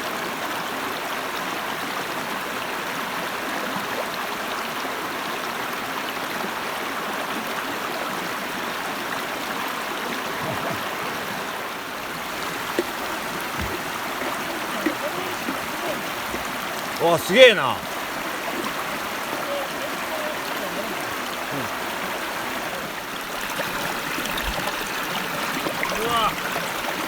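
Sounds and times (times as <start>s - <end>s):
river water running: 0.0s - 27.0s.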